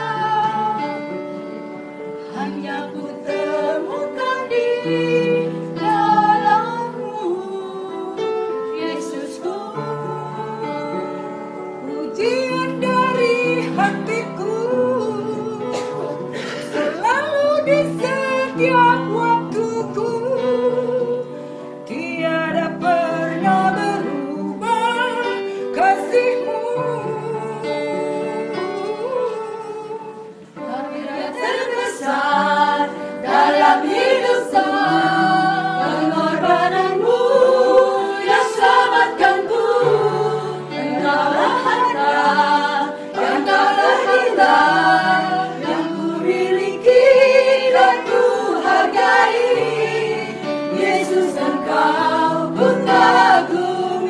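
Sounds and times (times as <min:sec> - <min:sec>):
women singing gospel song: 0:00.0 - 0:01.2, 0:02.2 - 0:21.2, 0:21.9 - 0:54.0.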